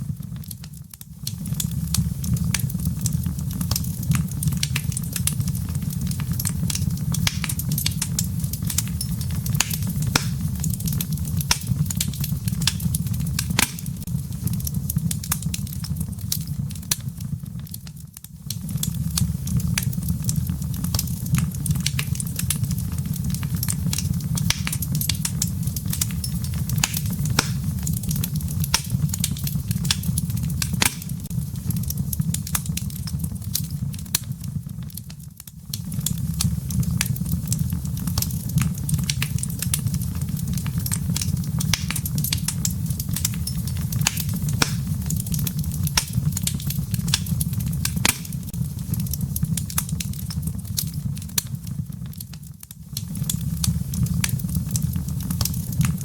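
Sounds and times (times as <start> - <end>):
firewood crackling and popping: 0.0 - 56.0
low rumble of flame: 0.0 - 56.0.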